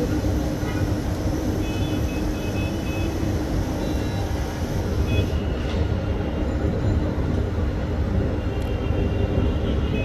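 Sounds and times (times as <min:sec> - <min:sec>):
vehicle rumbling: 0:00.0 - 0:10.0.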